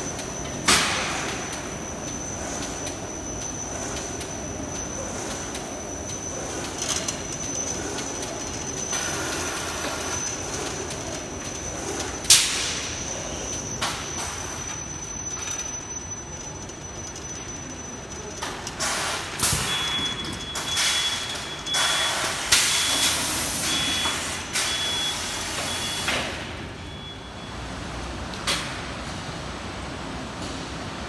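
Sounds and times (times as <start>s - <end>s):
mechanical machine noise: 0.0s - 31.0s.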